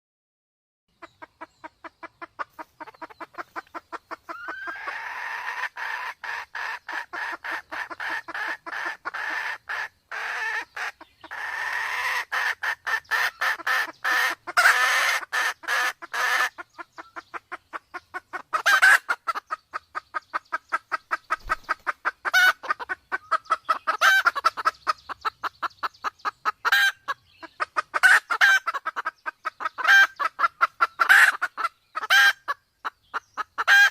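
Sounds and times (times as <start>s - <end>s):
hen clucking rapidly: 1.0s - 33.9s
sharp hen calls: 1.0s - 33.9s.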